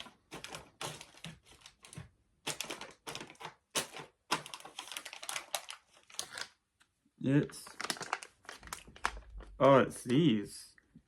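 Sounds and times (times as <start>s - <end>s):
plastic packets crinkling: 0.0s - 6.7s, 7.4s - 10.4s.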